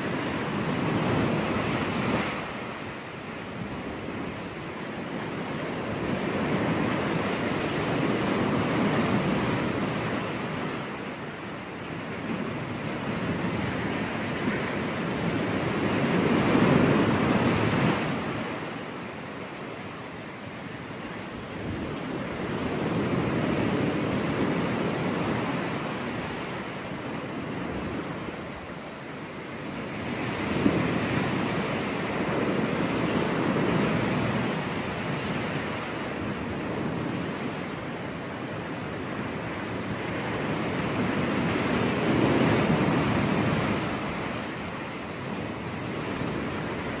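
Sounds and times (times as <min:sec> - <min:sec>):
ocean waves breaking on beach: 0:00.0 - 0:47.0.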